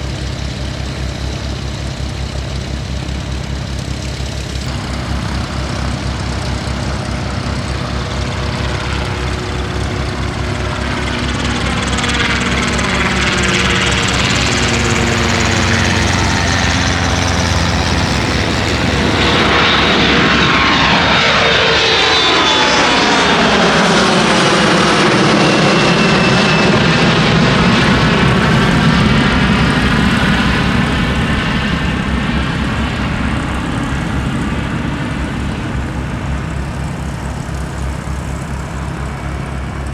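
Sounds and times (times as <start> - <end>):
airplane engines passing close: 0.0 - 39.9.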